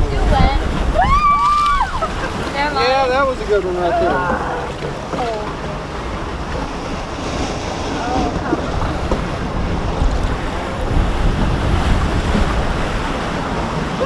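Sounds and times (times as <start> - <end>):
rushing river water: 0.0 - 14.0
wind buffeting microphone: 0.0 - 14.0.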